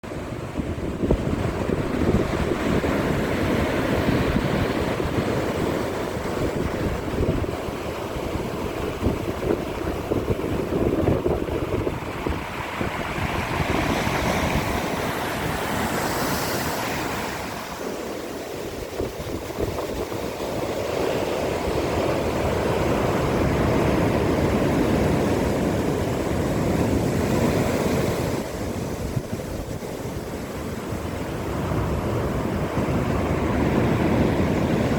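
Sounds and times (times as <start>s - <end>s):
sea waves washing onto shore: 0.0s - 34.9s
wind buffeting microphone: 0.0s - 34.9s.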